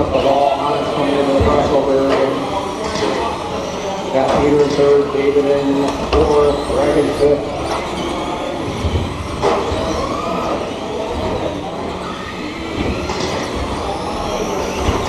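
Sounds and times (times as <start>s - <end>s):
rc truck motors whining: 0.0s - 15.0s
tyres rushing on track: 0.0s - 15.0s.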